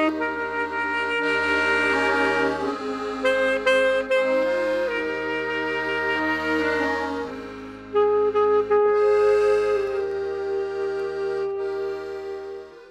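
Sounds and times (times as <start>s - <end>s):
accordion chords: 0.0s - 12.9s
saxophone melody: 0.0s - 12.9s.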